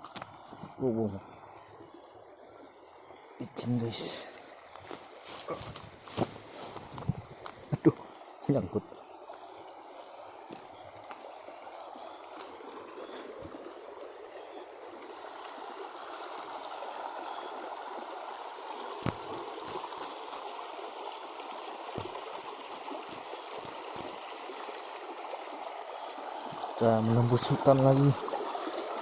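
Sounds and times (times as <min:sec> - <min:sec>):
forest stream running: 0:00.0 - 0:29.0
high-pitched insect drone: 0:00.0 - 0:29.0.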